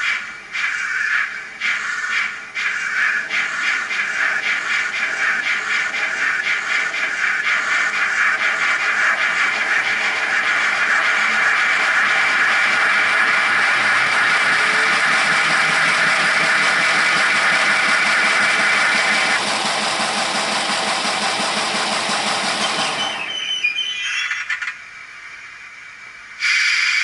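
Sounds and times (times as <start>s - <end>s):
steam hiss: 0.0s - 23.6s, 25.0s - 27.0s.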